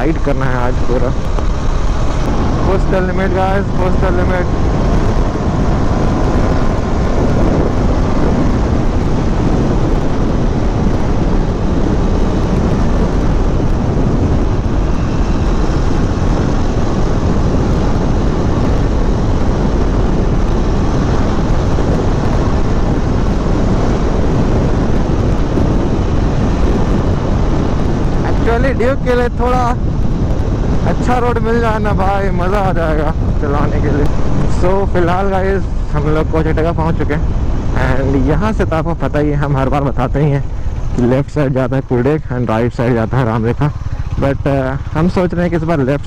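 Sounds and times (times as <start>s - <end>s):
motorcycle engine running: 0.0s - 46.0s
wind rushing over microphone: 0.0s - 46.0s.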